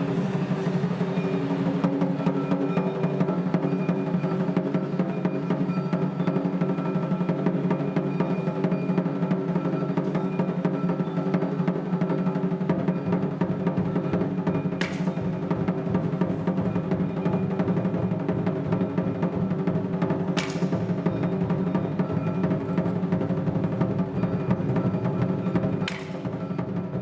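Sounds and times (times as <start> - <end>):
taiko drums ensemble: 0.0 - 27.0.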